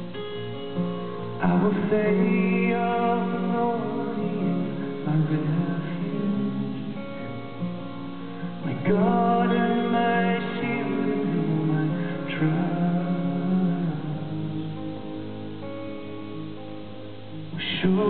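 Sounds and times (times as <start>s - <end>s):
resonator guitar: 0.0s - 18.0s
strummed acoustic guitar: 0.0s - 18.0s.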